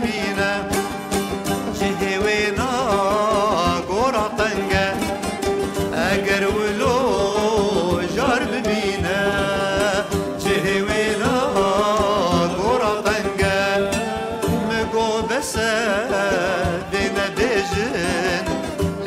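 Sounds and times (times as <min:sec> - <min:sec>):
long-necked lute strumming: 0:00.0 - 0:19.0
man singing folk melody: 0:00.0 - 0:19.0.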